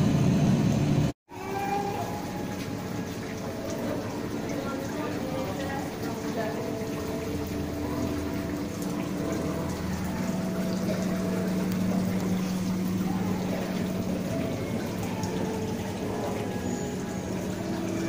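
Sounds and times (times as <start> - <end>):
water running in pool: 1.3 - 18.0
low steady hum: 1.9 - 18.0.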